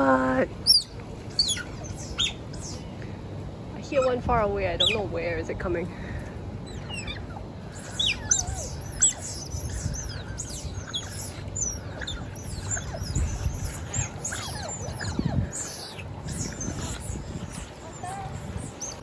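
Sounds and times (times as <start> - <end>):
otters chirping and squeaking: 0.6 - 2.9, 3.8 - 5.2, 6.6 - 19.0.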